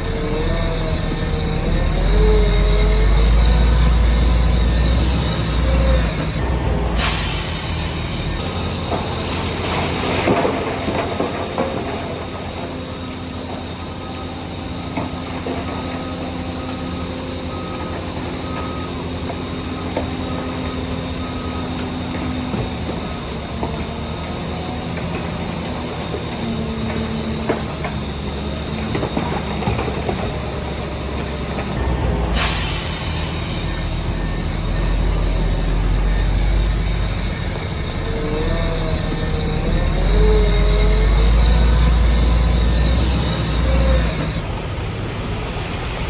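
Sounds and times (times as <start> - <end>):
deep engine rumble: 0.0 - 46.0
heavy machinery diesel engine: 0.0 - 46.0.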